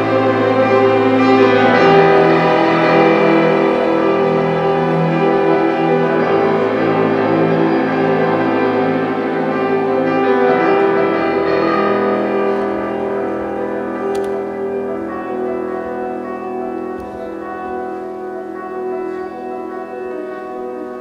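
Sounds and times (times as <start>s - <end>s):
orchestral strings sustained chords: 0.0s - 21.0s
piano: 0.0s - 21.0s.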